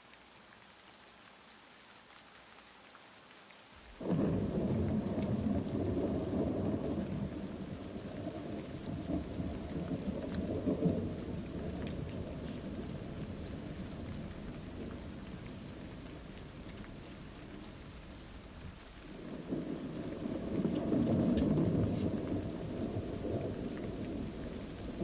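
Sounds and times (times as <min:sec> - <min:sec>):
light rain hissing: 0:00.0 - 0:25.0
rumble of thunder: 0:04.0 - 0:25.0.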